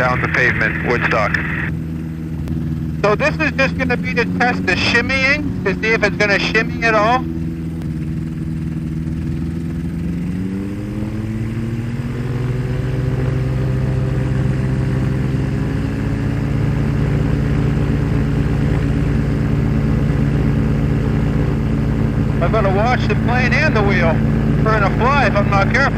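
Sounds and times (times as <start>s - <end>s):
ultralight plane engine throttling up: 0.0s - 25.9s.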